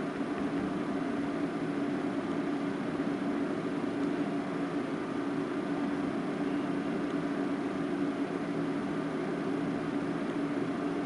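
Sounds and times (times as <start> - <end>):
machine hum over hiss: 0.0 - 11.0.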